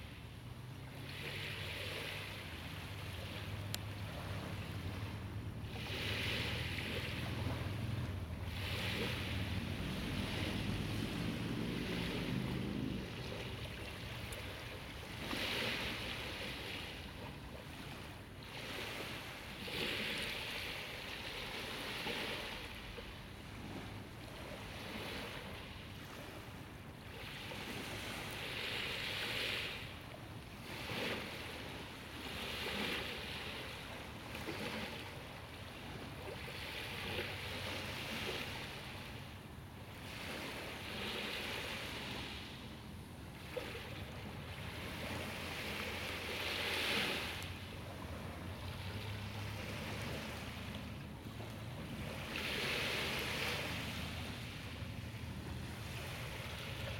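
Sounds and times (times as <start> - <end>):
sea waves washing onto shore: 0.0 - 56.9
wind rumble on microphone: 0.0 - 56.9.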